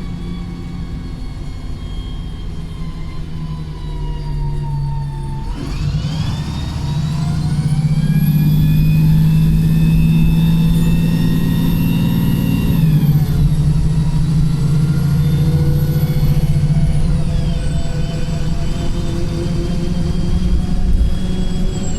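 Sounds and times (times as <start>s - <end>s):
bus diesel engine under load: 0.0s - 21.9s
gearbox whine: 0.0s - 21.9s.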